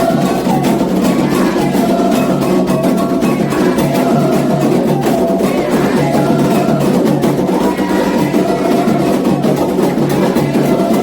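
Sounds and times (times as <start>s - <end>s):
hand drums playing dense rhythm: 0.0s - 11.0s.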